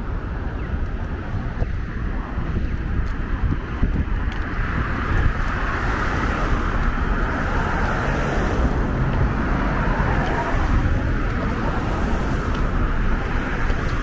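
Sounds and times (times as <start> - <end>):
low traffic rumble: 0.0 - 14.0
passing vehicles: 0.0 - 14.0.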